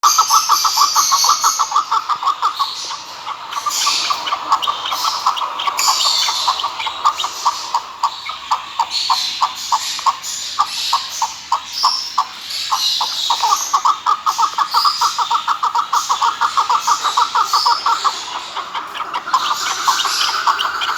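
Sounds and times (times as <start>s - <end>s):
higher chirping: 0.0s - 20.9s
partridge clucking call: 0.0s - 20.9s.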